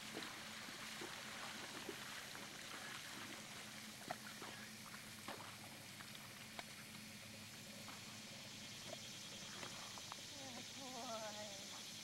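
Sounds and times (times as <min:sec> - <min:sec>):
hooves splashing through water: 0:00.0 - 0:12.0
steady low hum: 0:00.0 - 0:12.0.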